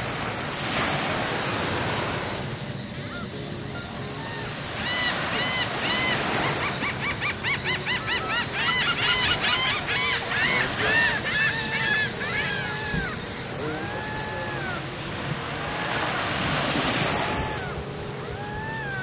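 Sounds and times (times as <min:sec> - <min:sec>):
small surf washing: 0:00.0 - 0:19.0
birds honking: 0:01.6 - 0:19.0.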